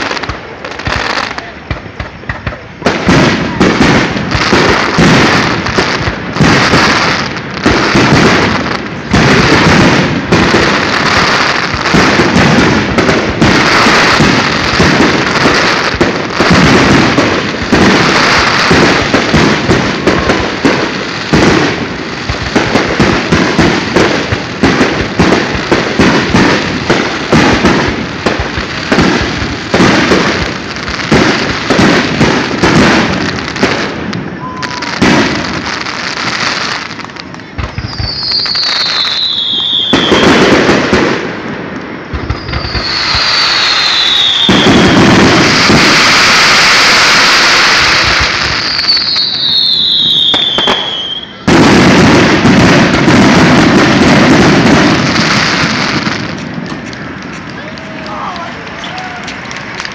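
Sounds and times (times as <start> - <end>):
firework shells bursting: 0.0 - 59.9.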